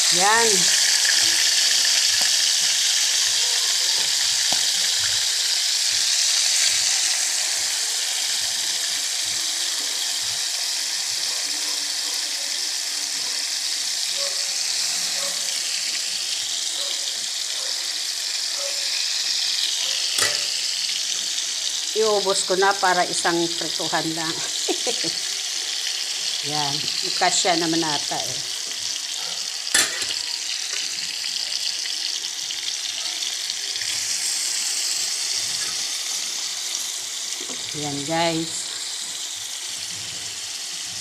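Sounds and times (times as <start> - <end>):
meat sizzling in hot oil: 0.0 - 41.0.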